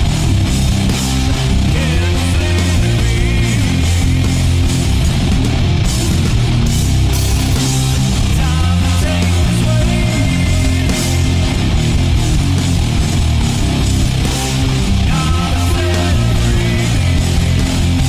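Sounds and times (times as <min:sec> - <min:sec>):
heavy rock song with electric guitars: 0:00.0 - 0:18.0.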